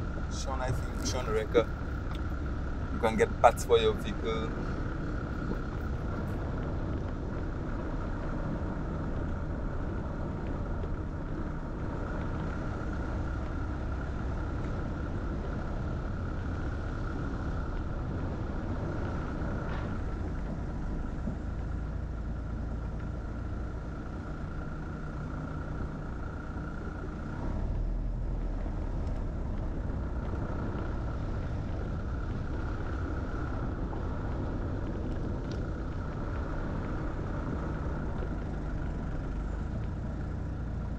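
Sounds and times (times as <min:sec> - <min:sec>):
car engine and tyre rumble: 0:00.0 - 0:40.9
constant higher hum: 0:00.0 - 0:40.9.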